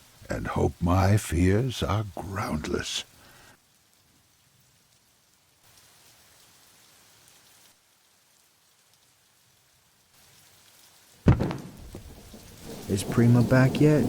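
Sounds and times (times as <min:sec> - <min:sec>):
faint hiss of rain: 0:00.0 - 0:14.0.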